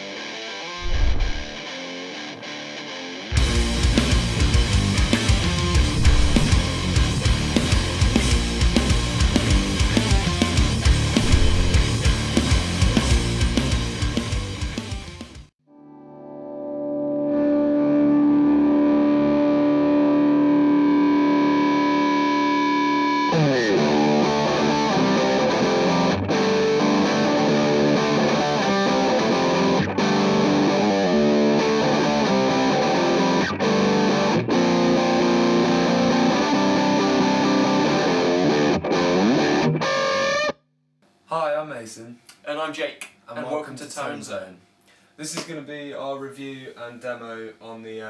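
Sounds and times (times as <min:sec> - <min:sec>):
distorted electric guitar: 0:00.0 - 0:40.6.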